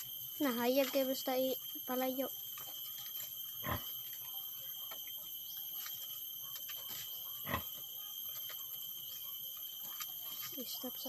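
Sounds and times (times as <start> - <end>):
high-pitched ringing drone: 0.0 - 11.0.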